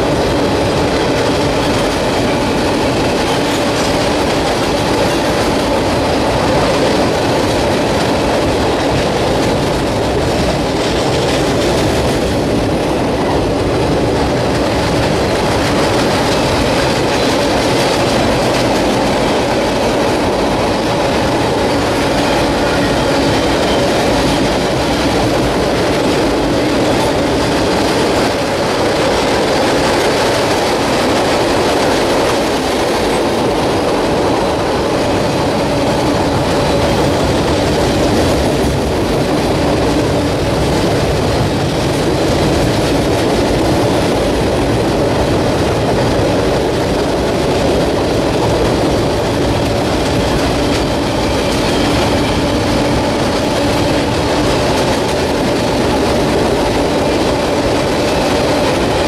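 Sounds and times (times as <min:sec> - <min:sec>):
train wheels rumbling on bridge: 0:00.0 - 0:59.0.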